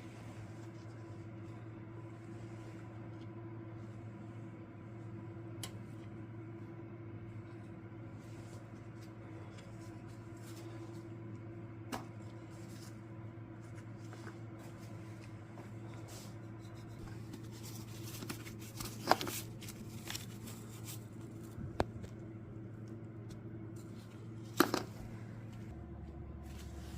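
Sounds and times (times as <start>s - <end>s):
steady electrical hum: 0.0s - 26.9s.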